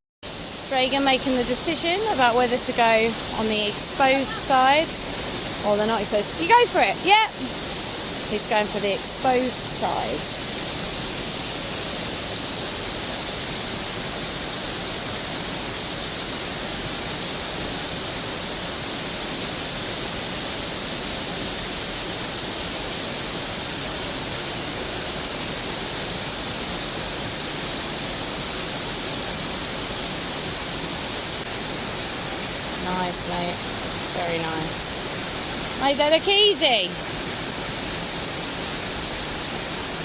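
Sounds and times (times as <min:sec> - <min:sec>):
waterfall rushing: 0:00.3 - 0:40.0.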